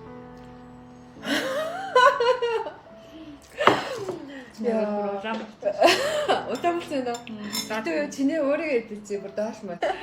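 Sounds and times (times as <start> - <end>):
music with held notes: 0.0 - 10.0.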